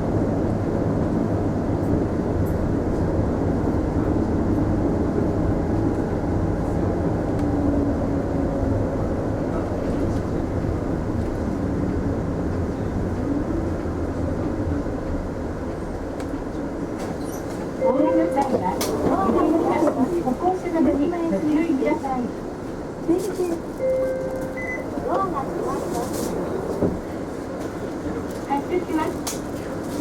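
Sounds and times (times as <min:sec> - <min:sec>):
bus engine hum: 0:00.0 - 0:30.0.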